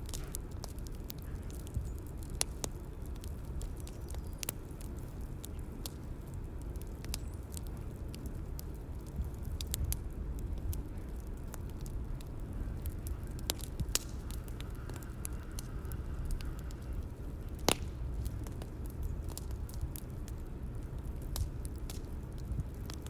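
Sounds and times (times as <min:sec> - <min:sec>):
fire crackles and pops: 0:00.0 - 0:23.0
rumble of burning wood: 0:00.0 - 0:23.0.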